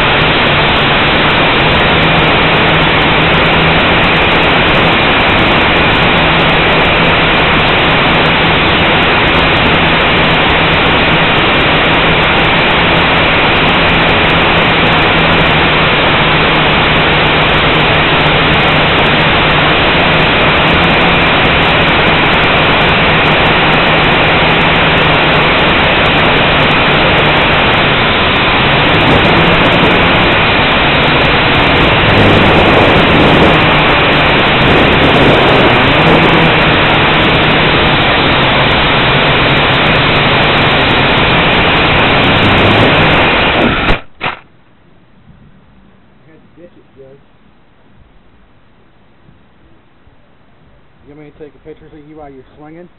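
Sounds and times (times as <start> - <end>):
drone propellers buzzing: 0.0 - 52.9.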